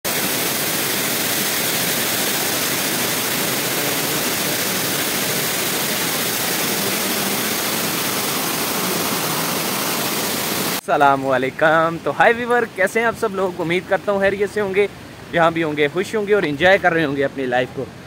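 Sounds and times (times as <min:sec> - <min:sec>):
waterfall rushing onto rocks: 0:00.1 - 0:18.0.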